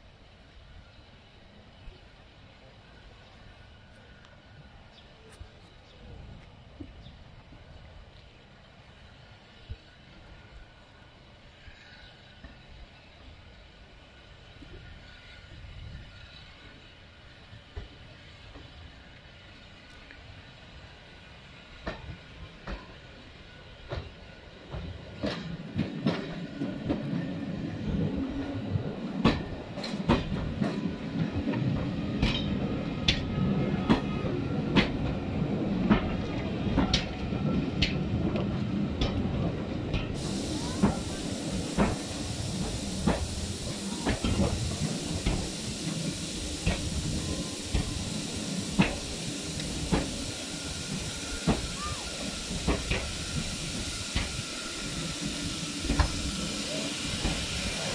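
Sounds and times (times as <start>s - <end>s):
train coaches rumbling: 0.0s - 57.9s
steam locomotive hissing: 9.0s - 57.9s.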